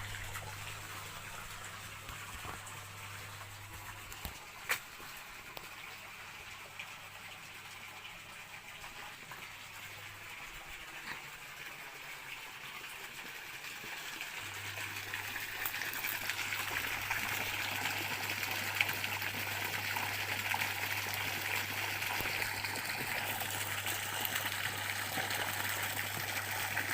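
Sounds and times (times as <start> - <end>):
running water rushing: 0.0 - 26.9.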